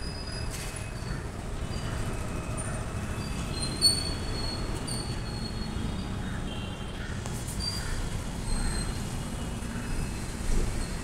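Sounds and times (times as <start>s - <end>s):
wheel squeals: 0.0s - 6.3s, 7.4s - 11.0s.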